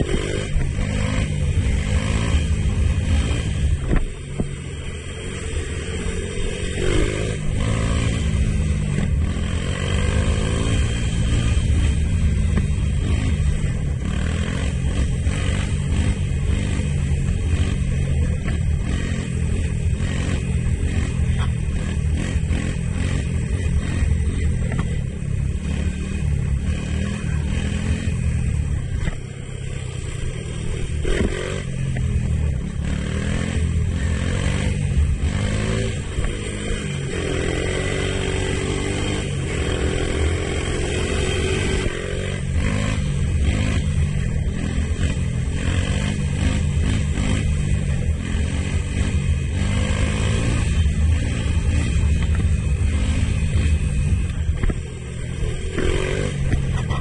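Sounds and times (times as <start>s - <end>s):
three-wheeler engine revving: 0.0s - 57.0s.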